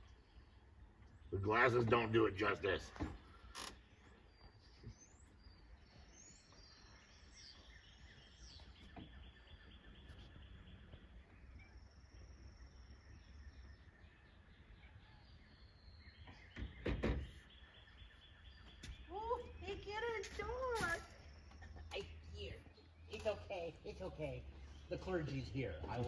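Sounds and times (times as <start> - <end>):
faint bird chirps: 2.5 - 26.0.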